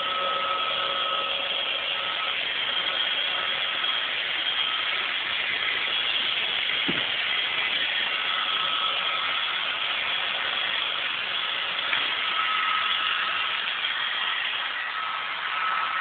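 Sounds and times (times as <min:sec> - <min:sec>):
robot vacuum whirring: 0:00.0 - 0:16.0.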